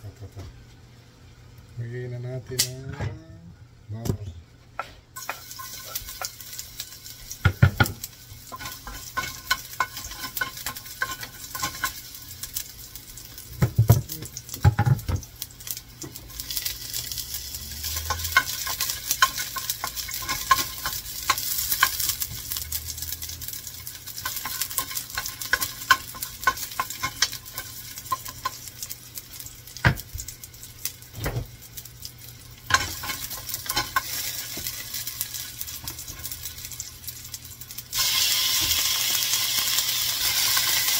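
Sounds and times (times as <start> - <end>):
garlic sizzling in oil: 4.8 - 40.9.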